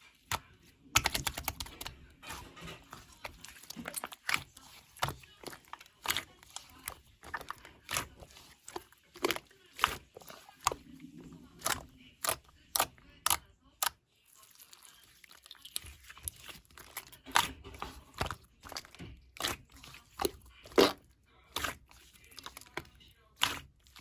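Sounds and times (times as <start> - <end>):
soft rustling of clay: 0.0 - 24.0.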